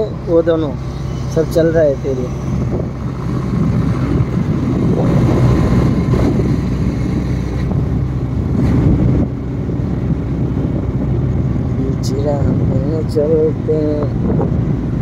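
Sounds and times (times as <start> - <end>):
road noise: 0.0 - 15.0
wind: 0.0 - 15.0.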